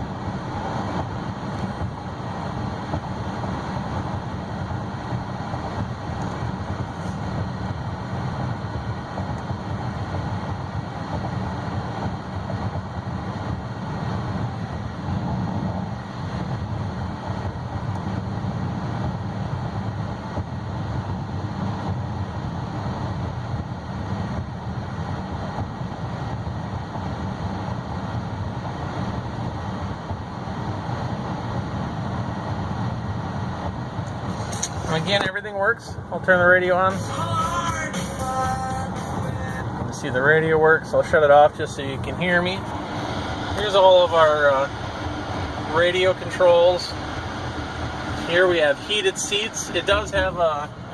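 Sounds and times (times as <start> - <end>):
road and tyre noise in car: 0.0 - 50.9.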